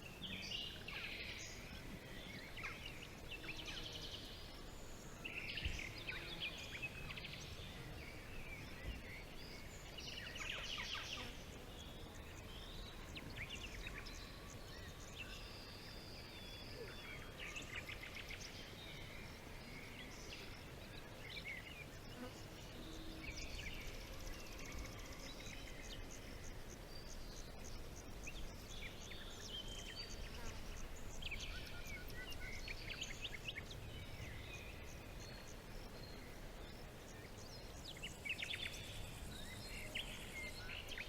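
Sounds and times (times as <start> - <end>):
birds chirping and trilling: 0.2 - 41.0.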